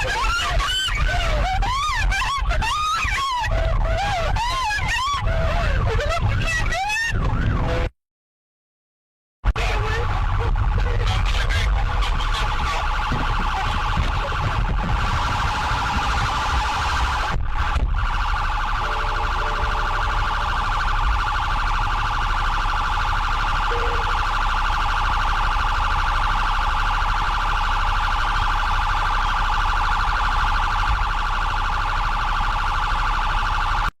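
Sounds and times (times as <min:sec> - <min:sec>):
police siren: 0:00.0 - 0:07.9, 0:09.5 - 0:34.0
road and engine rumble: 0:00.0 - 0:07.9, 0:09.5 - 0:33.9.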